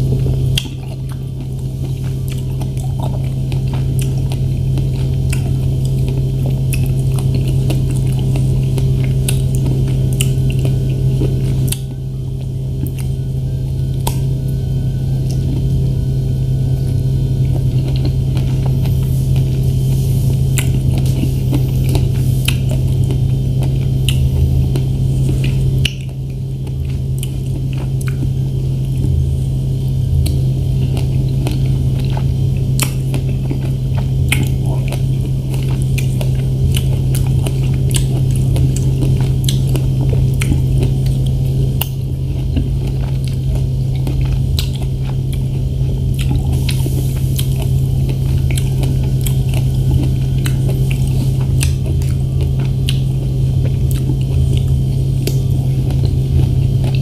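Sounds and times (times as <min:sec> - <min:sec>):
loud steady low hum: 0:00.0 - 0:57.0
person chewing strawberries: 0:00.0 - 0:57.0.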